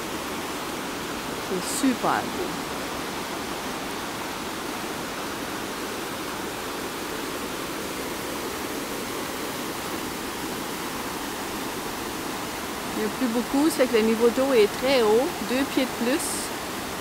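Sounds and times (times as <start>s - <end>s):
river rapids rushing over boulders: 0.0s - 17.0s.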